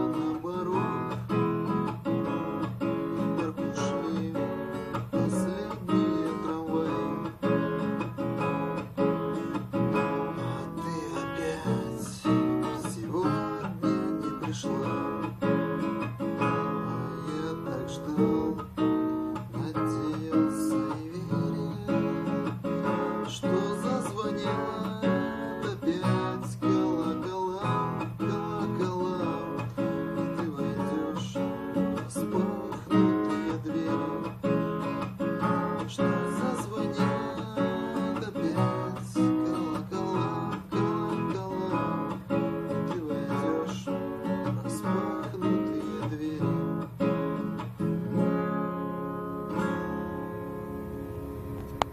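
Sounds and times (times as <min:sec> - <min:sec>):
acoustic guitar plucking: 0:00.0 - 0:51.9.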